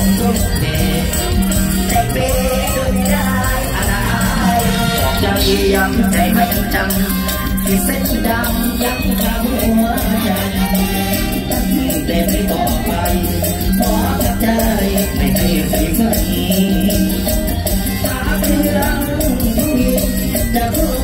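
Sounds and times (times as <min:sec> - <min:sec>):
bass line: 0:00.0 - 0:21.0
live band playing: 0:00.0 - 0:21.0.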